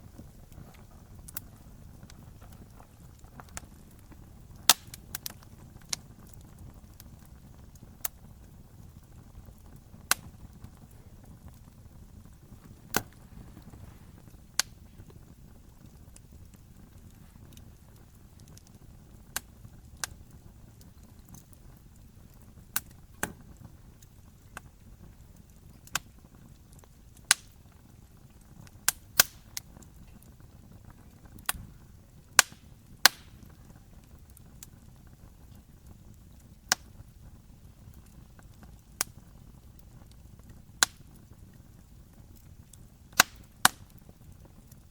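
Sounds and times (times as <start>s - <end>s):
low rumble of fire: 0.0s - 44.9s
wood crackling and popping: 0.0s - 44.9s.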